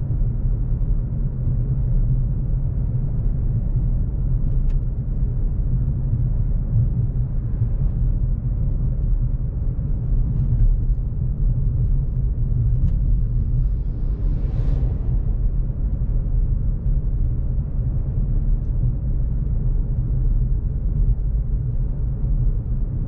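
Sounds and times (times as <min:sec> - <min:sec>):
car engine and road drone: 0:00.0 - 0:23.0.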